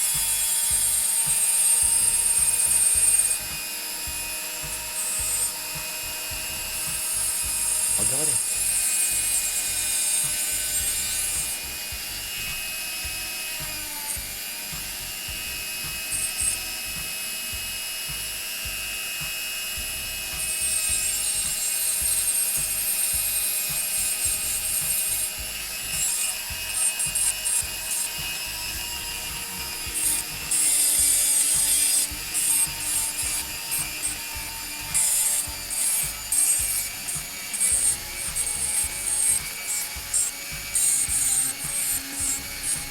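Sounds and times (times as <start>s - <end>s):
grinding glass: 0.0s - 42.9s
rotary tool motor whine: 0.0s - 42.9s.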